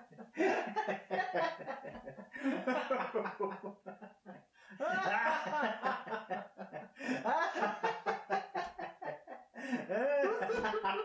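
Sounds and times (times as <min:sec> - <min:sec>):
men laughing mockingly: 0:00.0 - 0:11.0.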